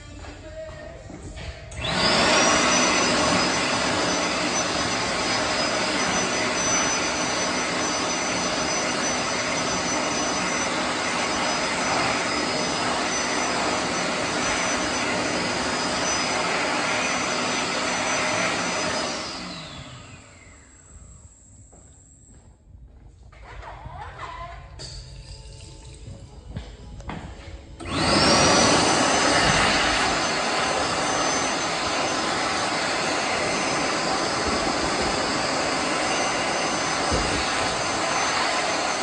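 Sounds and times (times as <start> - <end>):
hand dryer whining and blowing air: 0.0 - 22.0, 26.5 - 39.0.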